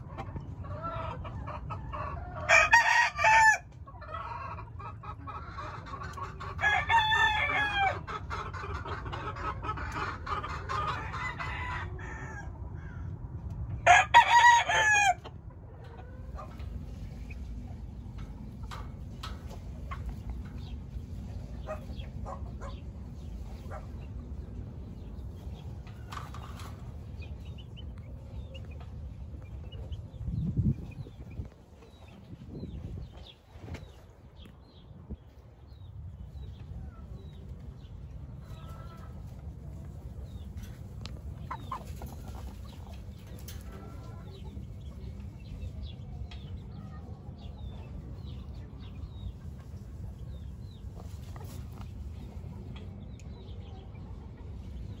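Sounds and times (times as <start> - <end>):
chickens clucking: 0.0 - 12.4, 13.0 - 55.0
steady low rumble: 8.0 - 55.0.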